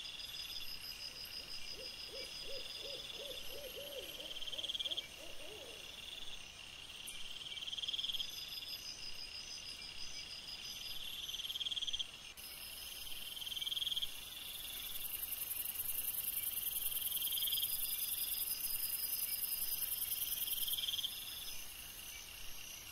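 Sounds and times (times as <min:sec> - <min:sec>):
insects chirping: 0:00.0 - 0:22.9.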